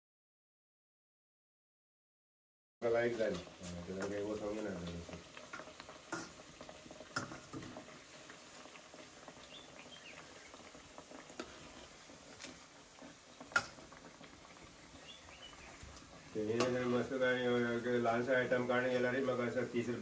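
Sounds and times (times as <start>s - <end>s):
oil sizzling: 2.8s - 20.0s.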